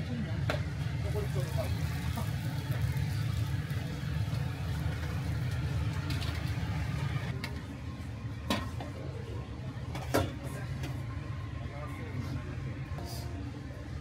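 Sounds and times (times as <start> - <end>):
exhaust fan and fryer hum: 0.0 - 14.0.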